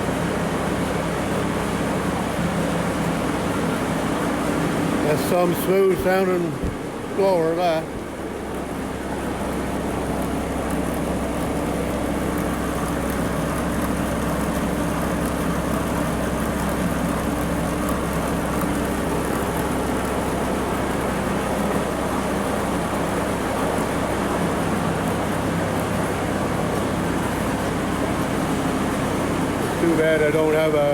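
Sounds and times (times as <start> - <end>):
snowblower running: 0.0 - 30.9
tractor diesel engine running: 0.0 - 30.9.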